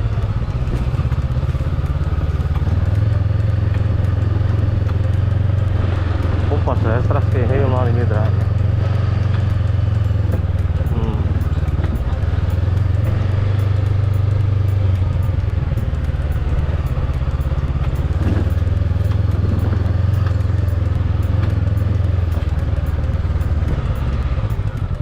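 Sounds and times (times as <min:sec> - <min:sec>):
motorbike engine running: 0:00.0 - 0:25.0.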